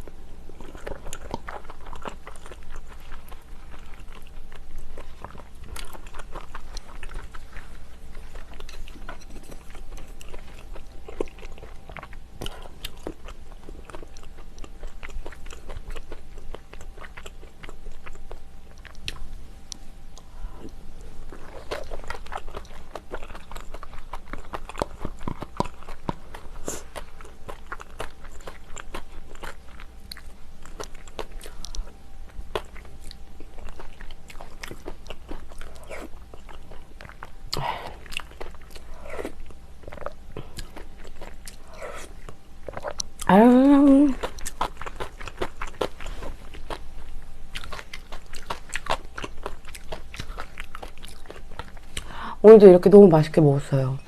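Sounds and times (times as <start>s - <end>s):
person chewing and crunching: 0.0s - 53.0s.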